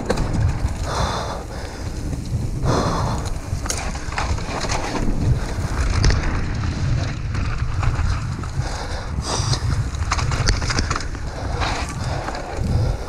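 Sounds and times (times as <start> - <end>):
bike rattling and clicking: 0.0 - 13.0
tyres on dirt: 0.0 - 13.0
wind buffeting microphone: 0.0 - 13.0.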